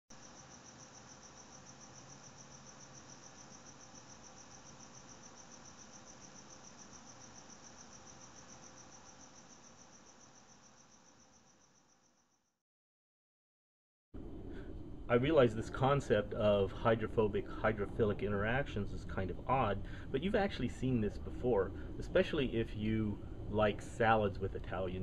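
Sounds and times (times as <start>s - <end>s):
insect chirping: 0.1s - 12.6s, 15.3s - 25.0s.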